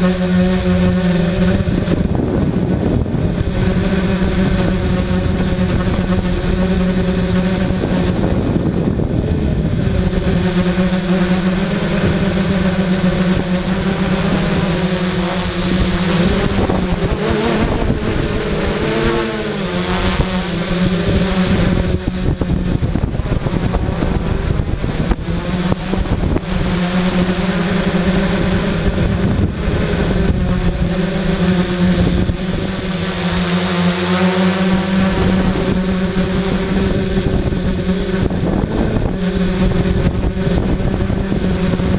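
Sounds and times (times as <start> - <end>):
quadcopter propellers buzzing: 0.0 - 41.9
wind noise: 0.0 - 41.9.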